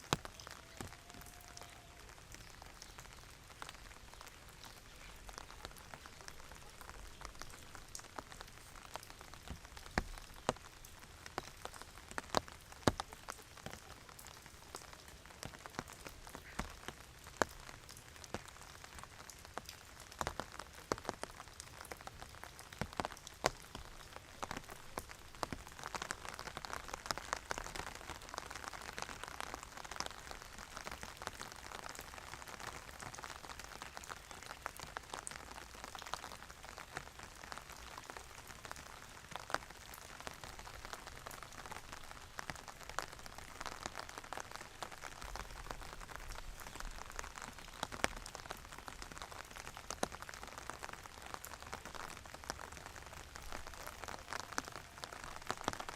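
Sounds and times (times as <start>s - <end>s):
rain drops ticking on hard surface: 0.0s - 55.9s.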